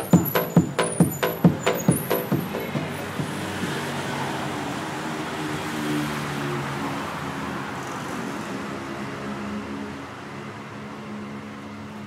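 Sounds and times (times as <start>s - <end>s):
traffic hum: 0.0s - 12.0s.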